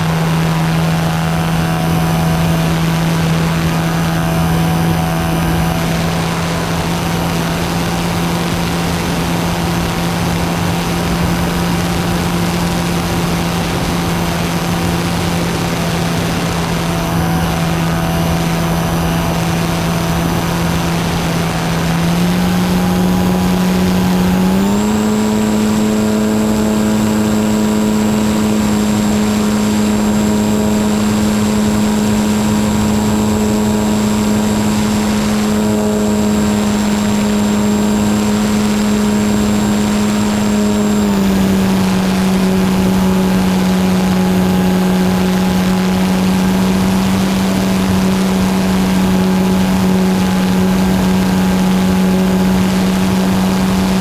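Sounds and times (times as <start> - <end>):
electric motor propeller whining: 0.0 - 54.0.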